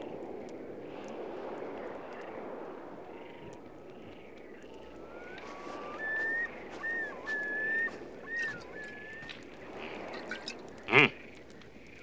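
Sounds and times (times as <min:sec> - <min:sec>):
steady wind: 0:00.0 - 0:12.0.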